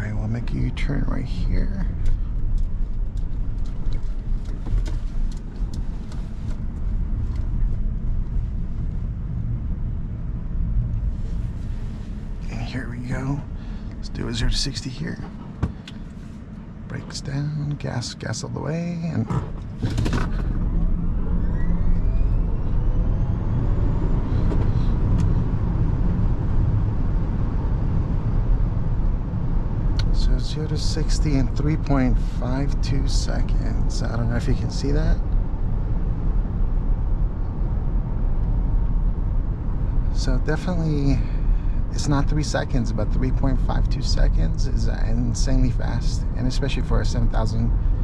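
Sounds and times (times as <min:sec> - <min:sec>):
road and tyre rumble in cabin: 0:00.0 - 0:48.0.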